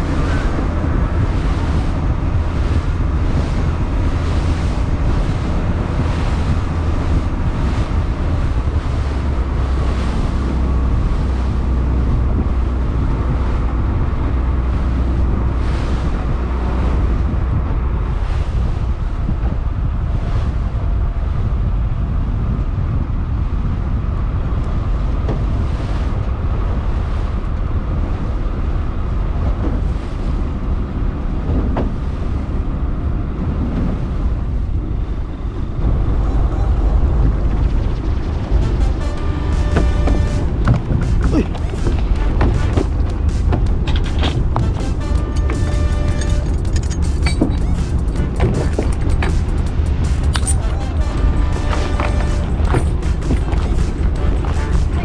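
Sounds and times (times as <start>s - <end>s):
boat engine rumbling: 0.0s - 55.0s
water washing around hull: 0.0s - 55.0s
wind buffeting microphone: 0.0s - 55.0s.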